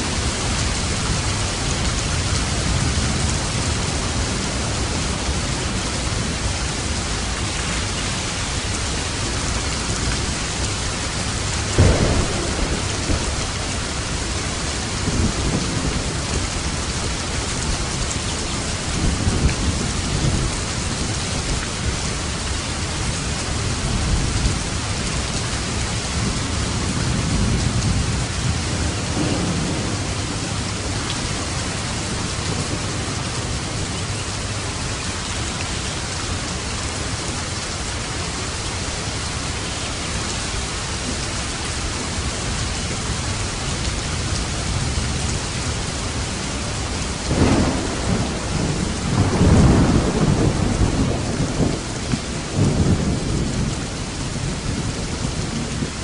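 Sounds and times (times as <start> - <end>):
thunder rumbling and cracking: 0.0 - 34.8, 40.2 - 56.0
heavy rain on a roof: 0.0 - 56.0.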